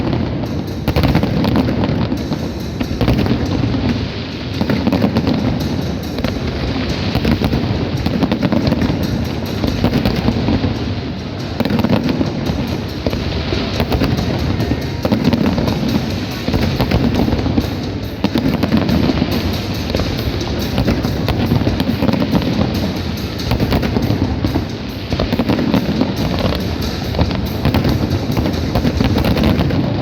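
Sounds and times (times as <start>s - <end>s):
fireworks crackling pops and bangs: 0.0s - 30.0s.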